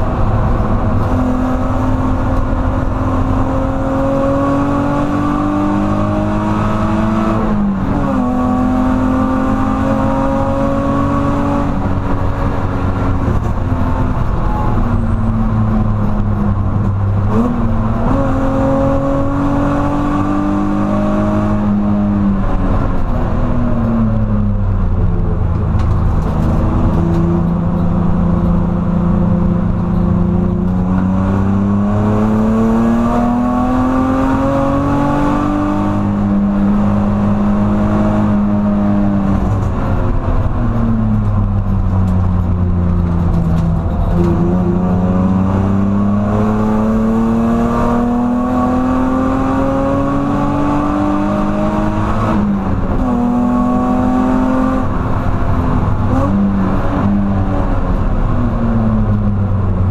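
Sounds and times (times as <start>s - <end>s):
car engine revving: 0.0s - 59.9s
road and tyre noise: 0.0s - 59.9s.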